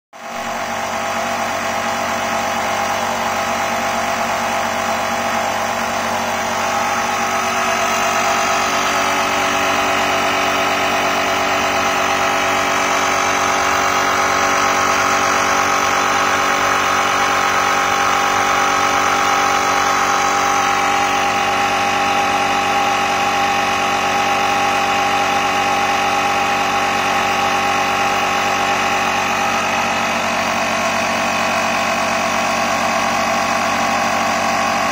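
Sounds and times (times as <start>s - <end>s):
air compressor humming: 0.2s - 34.9s.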